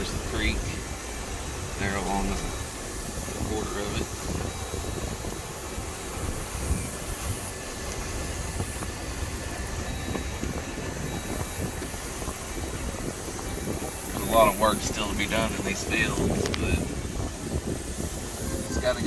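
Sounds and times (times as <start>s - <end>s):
vehicle engine and tyres rumbling: 0.0s - 19.0s
wind noise on microphone: 0.0s - 19.0s.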